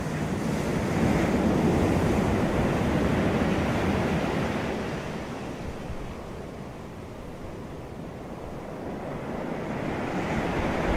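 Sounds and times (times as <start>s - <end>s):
ocean surf washing on beach: 0.0s - 10.9s.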